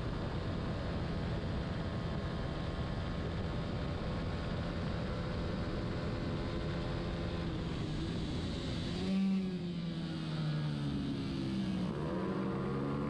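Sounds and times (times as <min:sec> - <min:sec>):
racing motorcycle engine: 0:00.0 - 0:13.0.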